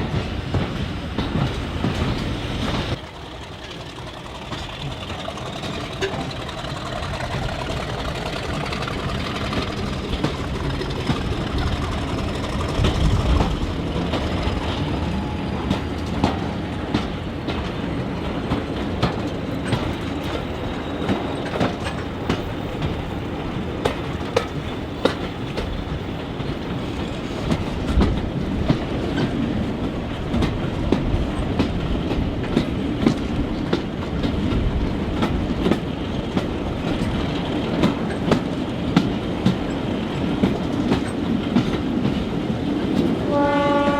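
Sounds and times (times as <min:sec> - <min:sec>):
train rumbling on track: 0:00.0 - 0:43.9
wheels clicking over rail joints: 0:00.0 - 0:43.9.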